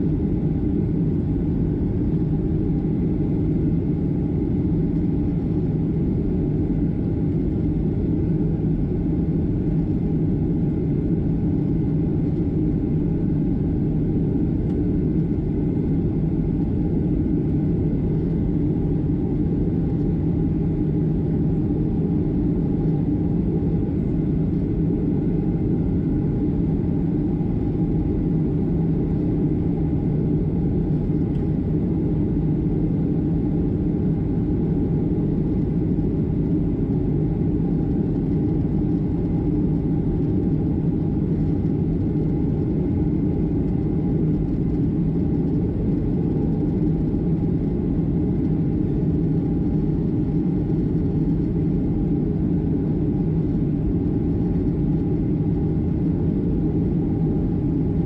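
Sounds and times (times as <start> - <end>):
jet engine noise: 0.0 - 58.0
low even hum: 0.0 - 58.0.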